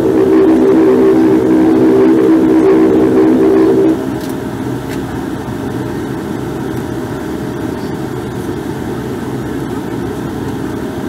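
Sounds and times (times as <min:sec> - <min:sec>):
faint steady hum: 0:00.0 - 0:11.0
turboprop engine drone in cabin: 0:00.0 - 0:11.0.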